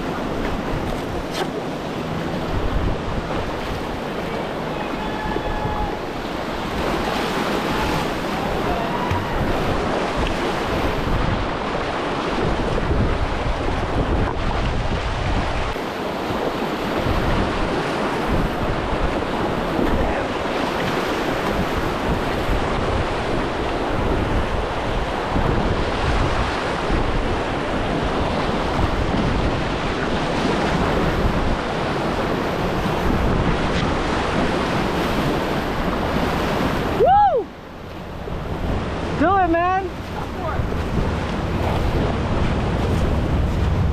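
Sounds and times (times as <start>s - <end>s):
whitewater river rushing: 0.0s - 43.9s
wind buffeting microphone: 0.0s - 43.9s.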